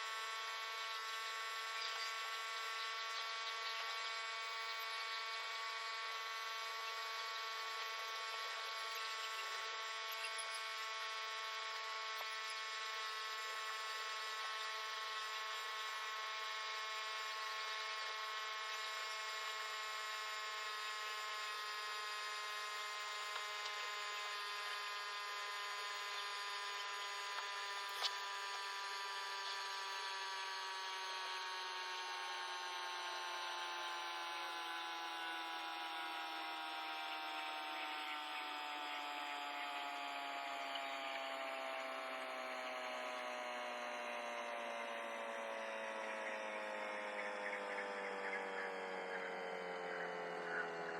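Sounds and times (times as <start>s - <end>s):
small motor buzzing: 0.0s - 50.9s.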